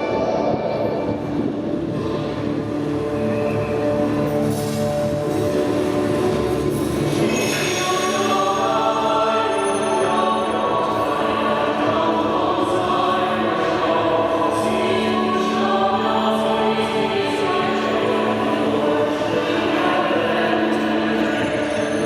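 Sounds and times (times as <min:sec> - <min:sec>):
soundtrack music: 0:00.0 - 0:22.0
choir singing held notes: 0:03.4 - 0:22.0.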